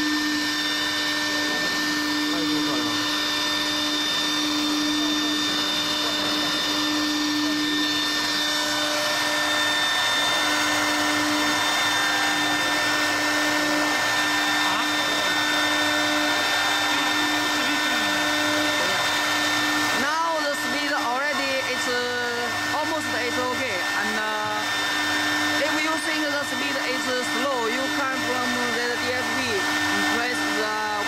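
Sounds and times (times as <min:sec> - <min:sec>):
machining noise: 0:00.0 - 0:31.0
router spindle whine: 0:00.0 - 0:31.0.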